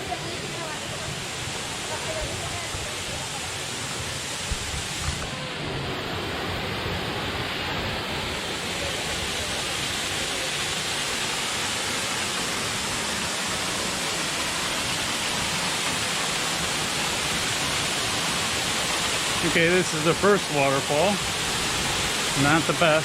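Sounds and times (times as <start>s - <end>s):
waterfall pouring into a pool: 0.0s - 23.0s.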